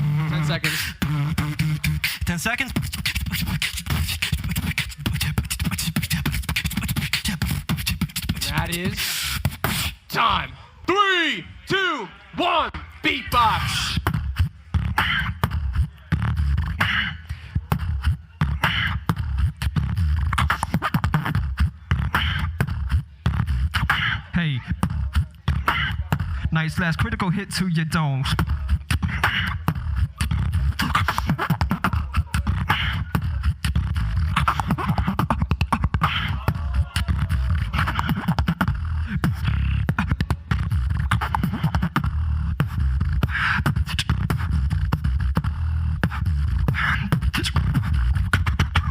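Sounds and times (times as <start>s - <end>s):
beatboxing into a microphone: 0.0s - 10.5s, 12.7s - 48.9s
heavy bass: 0.0s - 48.9s.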